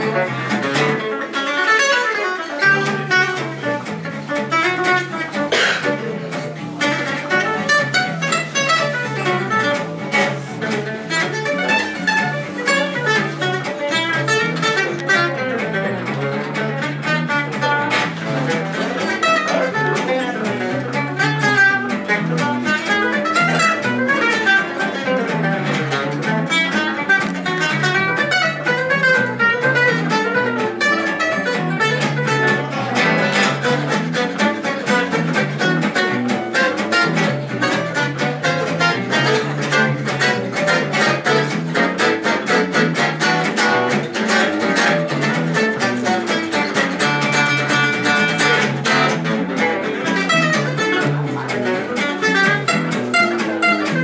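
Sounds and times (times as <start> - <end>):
bass line: 0.0 - 1.0, 2.7 - 54.0
lead acoustic guitar melody: 0.0 - 54.0
rhythm guitar strumming chords: 0.0 - 54.0.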